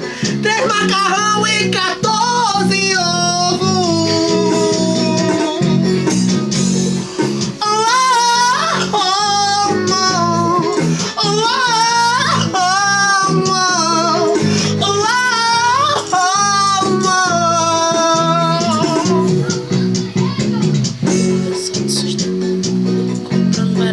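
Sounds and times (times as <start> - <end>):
high singing voice: 0.0 - 22.5, 23.3 - 23.9
guitar playing: 0.0 - 23.9.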